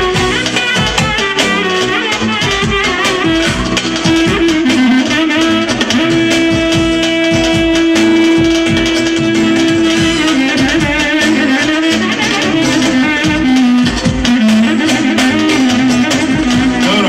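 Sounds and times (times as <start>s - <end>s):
saxophone melody: 0.0s - 17.0s
steady drum beat: 0.0s - 17.0s.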